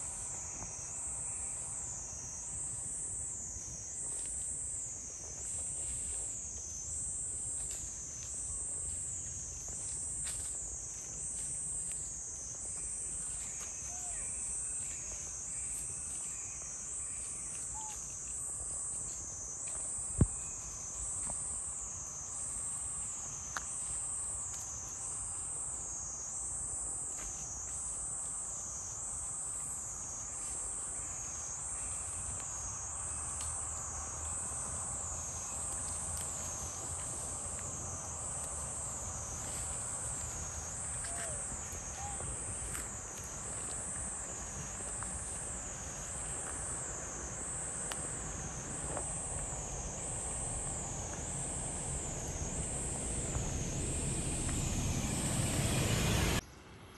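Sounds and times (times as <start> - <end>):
insect chorus buzzing: 0.0 - 56.4.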